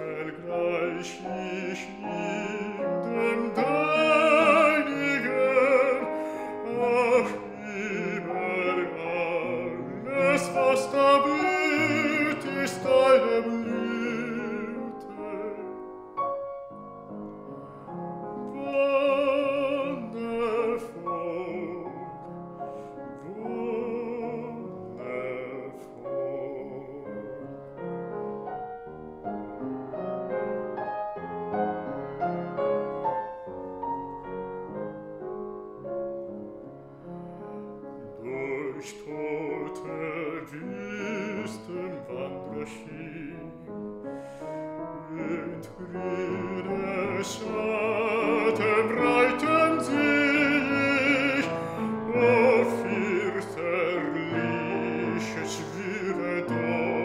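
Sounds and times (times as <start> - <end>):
baritone singing with vibrato: 0.0 - 16.1, 17.5 - 28.0, 38.0 - 57.0
piano accompaniment: 0.0 - 57.0.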